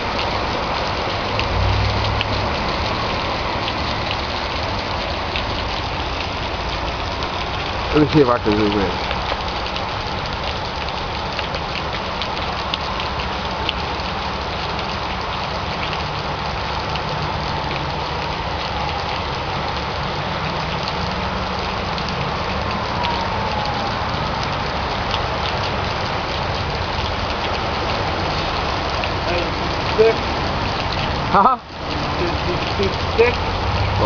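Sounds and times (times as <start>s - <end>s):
heavy rain falling: 0.0s - 34.0s
sharp raindrop hits: 0.0s - 34.0s.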